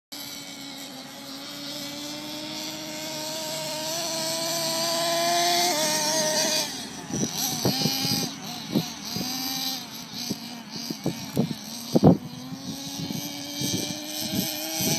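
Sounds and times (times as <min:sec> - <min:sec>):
rc truck motor buzzing: 0:00.1 - 0:14.9.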